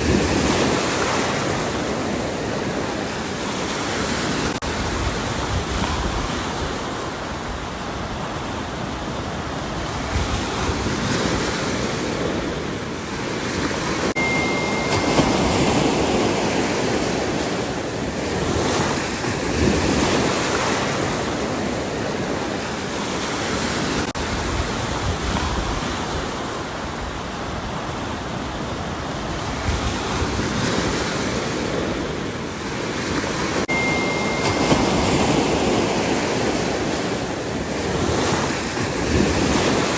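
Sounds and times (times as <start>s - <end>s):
waves breaking and washing: 0.0s - 39.9s
wind on microphone: 0.0s - 39.9s.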